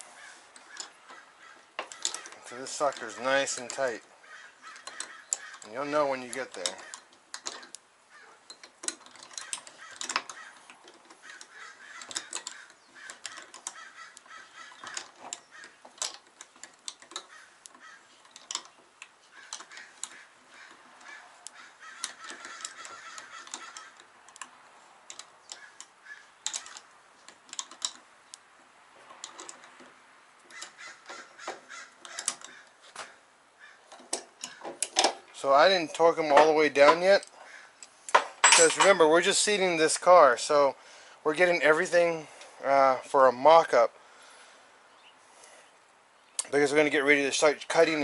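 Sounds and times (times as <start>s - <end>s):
hand tools clicking and clinking: 0.5s - 33.2s, 33.8s - 39.8s.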